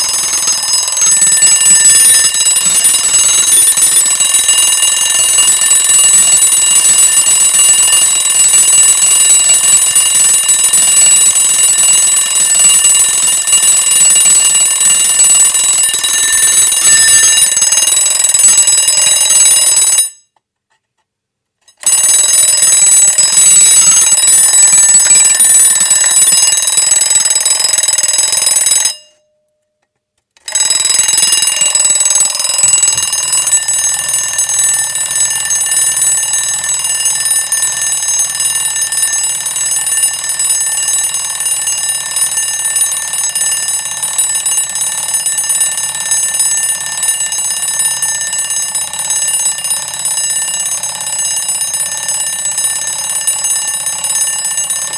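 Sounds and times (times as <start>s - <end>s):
alarm clock ringing: 0.0s - 20.3s, 21.8s - 29.3s, 30.4s - 54.9s.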